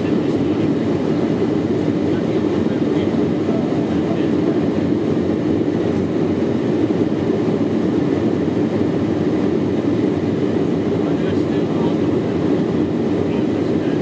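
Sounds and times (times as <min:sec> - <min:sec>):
airliner cabin engine noise: 0:00.0 - 0:14.0.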